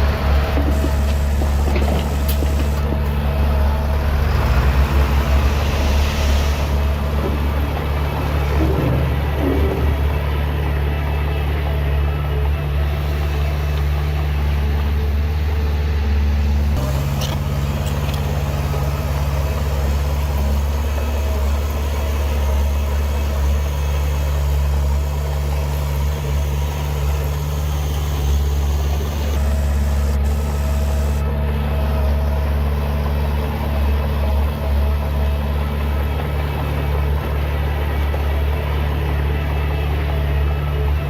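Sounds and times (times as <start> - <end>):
heavy diesel engine humming: 0.0 - 41.0.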